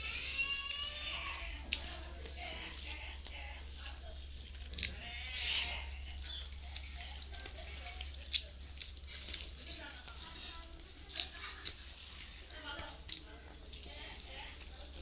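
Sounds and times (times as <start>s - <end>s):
wet chewing and lip-smacking: 1.4s - 15.0s.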